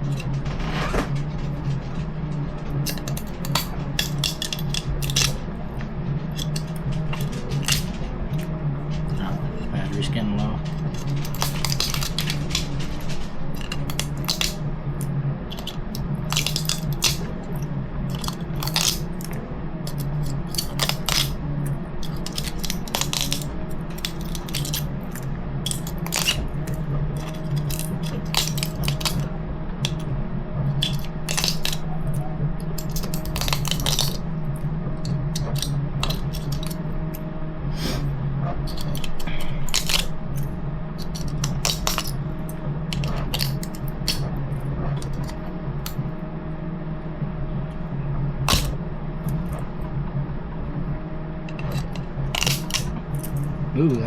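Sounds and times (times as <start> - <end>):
plastic parts clicking and scraping: 0.0 - 46.1, 48.4 - 49.7, 51.5 - 53.5
steady low hum: 0.0 - 54.0.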